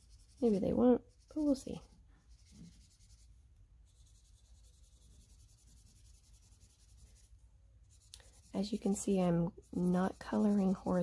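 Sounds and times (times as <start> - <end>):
felt-tip marker scratching on paper: 0.0 - 11.0.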